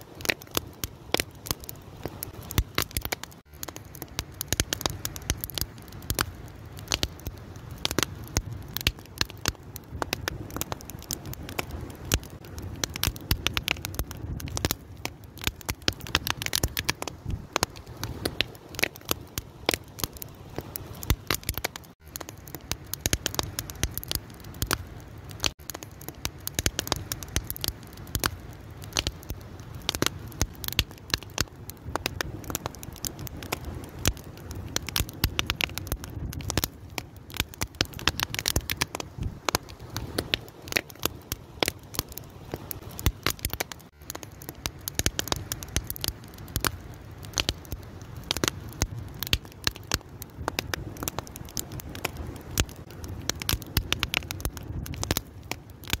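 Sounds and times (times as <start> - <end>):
fire crackling: 0.0 - 56.0
low rush of flame: 0.0 - 56.0.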